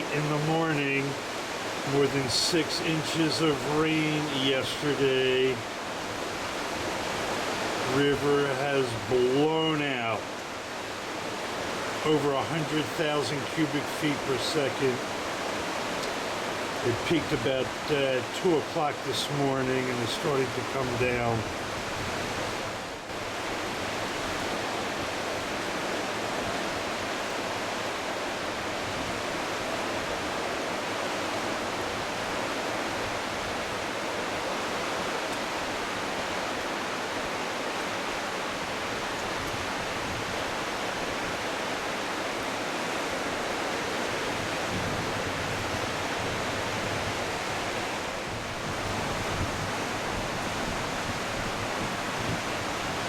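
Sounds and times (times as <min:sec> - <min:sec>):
river rushing in flood: 0:00.0 - 0:53.0.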